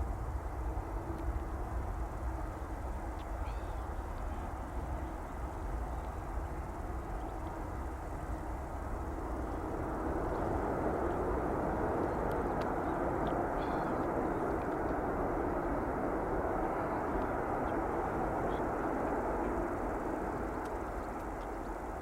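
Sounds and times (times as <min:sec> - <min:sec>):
jet engine rumble: 0:00.0 - 0:22.0.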